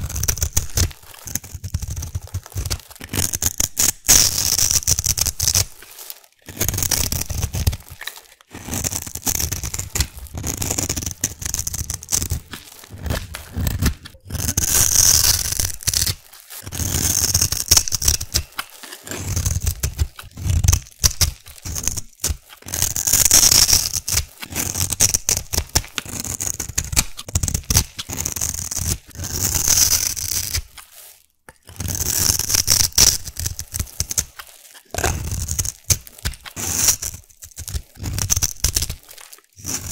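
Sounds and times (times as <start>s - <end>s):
knife carving soap: 0.0s - 39.9s.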